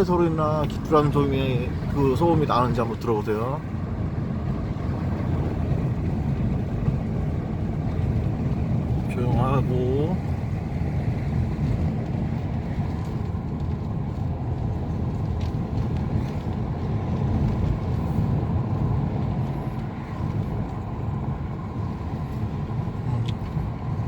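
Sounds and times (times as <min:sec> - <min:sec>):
tyres rumbling on rough road: 0:00.0 - 0:24.0.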